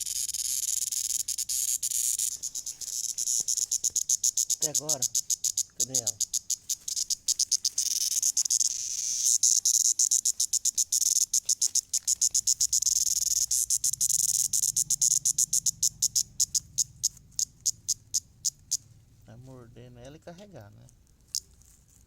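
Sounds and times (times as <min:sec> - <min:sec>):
cicada buzzing: 0:00.0 - 0:20.2, 0:21.3 - 0:21.5.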